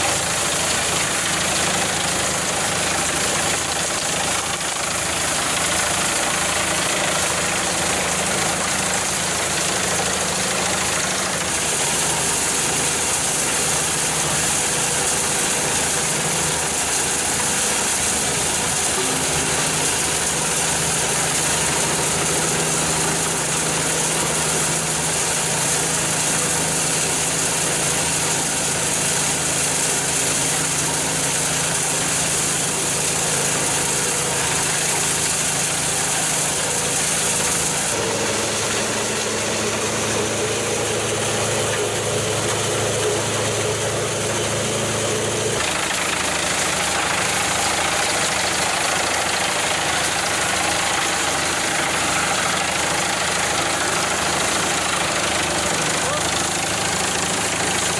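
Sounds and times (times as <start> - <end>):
machinery engine running: 0.0 - 57.9.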